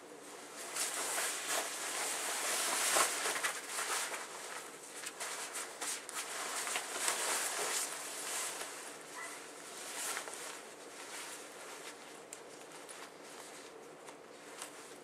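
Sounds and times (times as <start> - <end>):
nylon jacket rustling: 0.2 - 15.0.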